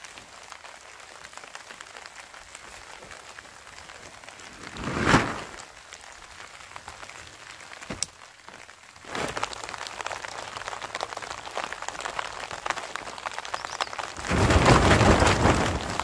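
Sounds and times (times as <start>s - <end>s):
rain pattering on tent fabric: 0.0s - 16.0s.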